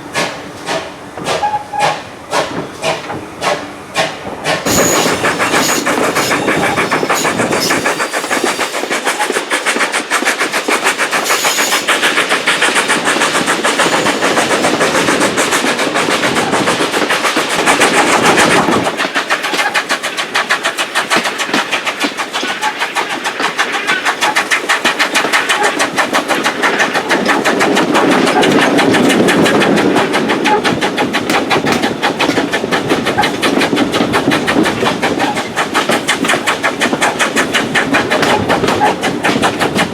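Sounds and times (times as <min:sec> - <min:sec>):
steam locomotive chuffing: 0:00.0 - 0:39.9
steam hissing: 0:00.1 - 0:39.9.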